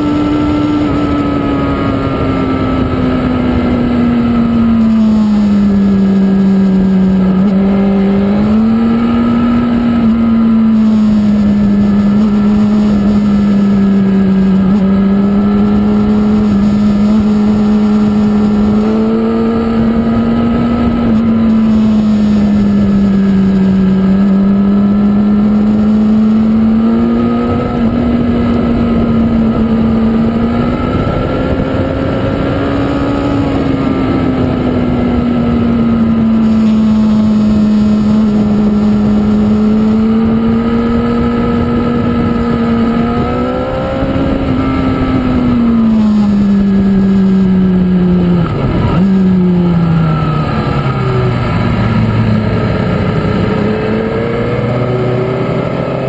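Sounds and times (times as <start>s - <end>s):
motorcycle engine at high revs: 0.0s - 56.0s
rushing wind noise: 0.0s - 56.0s.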